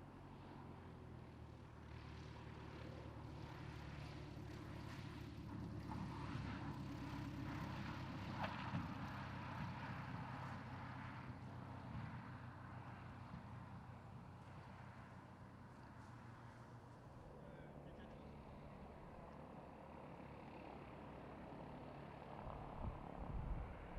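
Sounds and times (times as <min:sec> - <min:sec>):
propeller aircraft engine: 0:00.0 - 0:23.9.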